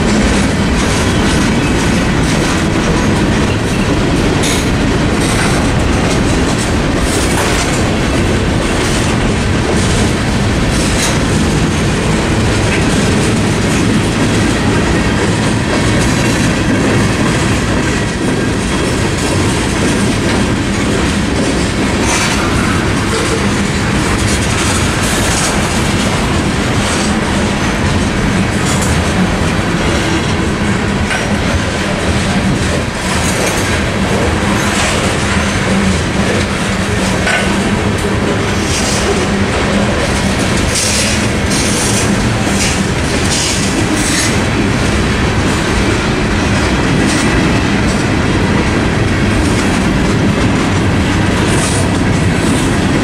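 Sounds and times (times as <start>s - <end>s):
clickety-clack over rail joints: 0.0s - 53.0s
freight train wheels rumbling: 0.0s - 53.0s.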